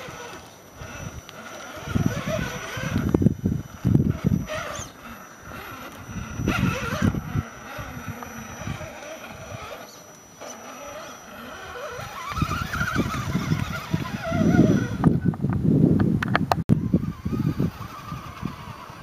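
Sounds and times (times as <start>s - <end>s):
tyres scrabbling on rock: 0.0s - 15.5s
small electric motor whining: 0.0s - 19.0s.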